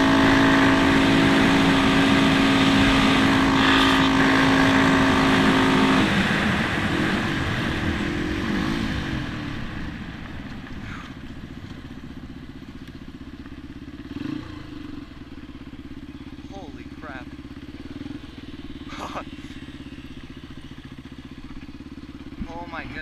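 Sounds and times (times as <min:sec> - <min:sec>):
dirt bike engine: 0:00.0 - 0:23.0.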